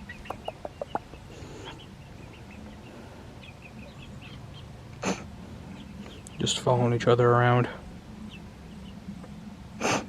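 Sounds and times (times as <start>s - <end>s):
young chickens chirping: 0.0s - 10.0s.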